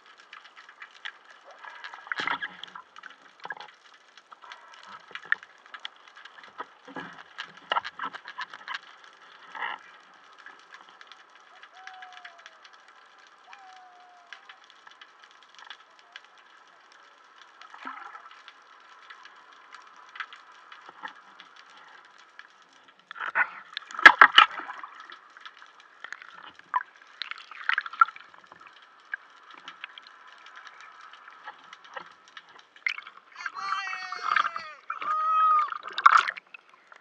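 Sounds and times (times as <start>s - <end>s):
muffled underwater water movement: 0.0s - 37.0s
small underwater clicks and crackles: 0.0s - 37.0s.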